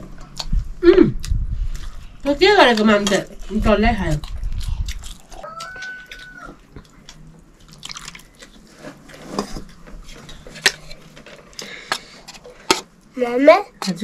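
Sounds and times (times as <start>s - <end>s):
soft eating sounds: 0.0s - 14.0s.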